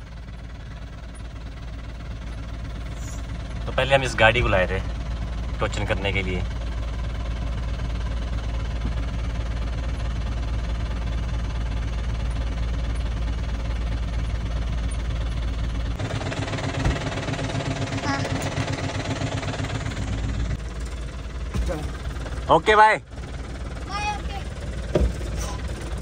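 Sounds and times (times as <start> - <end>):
engine drone inside a cab: 0.0 - 26.0
throbbing pulsing engine: 0.0 - 26.0.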